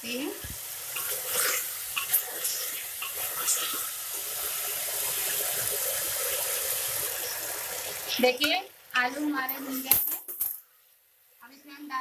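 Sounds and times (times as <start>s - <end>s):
potatoes sizzling in oil: 0.0s - 9.9s.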